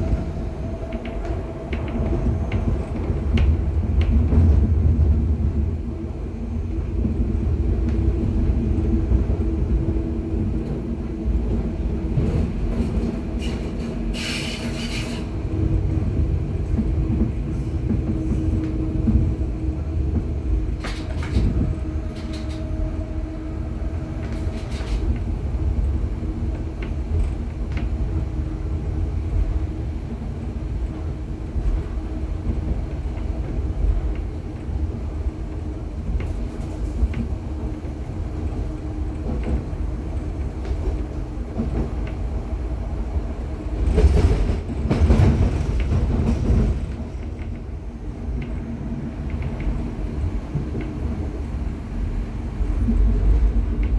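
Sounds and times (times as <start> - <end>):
train wheels rumbling: 0.0 - 53.9.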